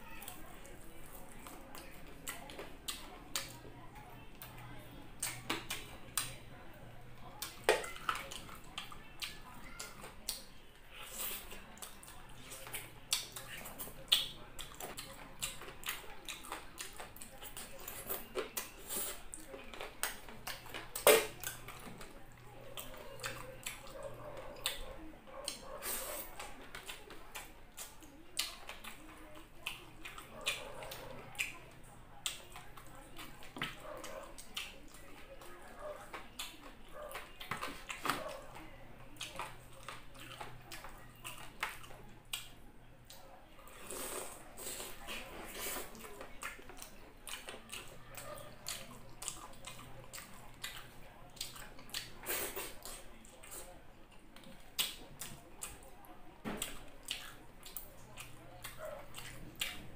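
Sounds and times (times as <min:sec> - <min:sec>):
wet chewing and lip-smacking: 0:00.2 - 0:03.7, 0:04.4 - 0:06.4, 0:07.3 - 0:55.9, 0:56.6 - 0:59.9.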